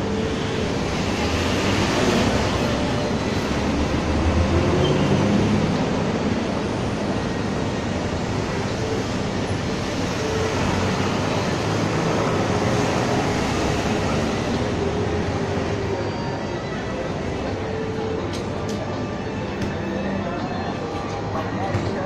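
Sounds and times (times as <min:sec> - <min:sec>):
city street traffic noise: 0:00.0 - 0:22.0.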